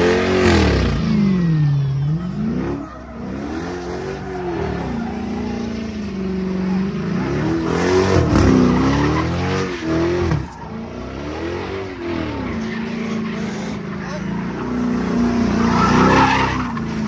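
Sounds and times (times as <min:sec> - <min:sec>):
car engine revving: 0:00.0 - 0:17.0
tyres squealing: 0:00.5 - 0:17.0.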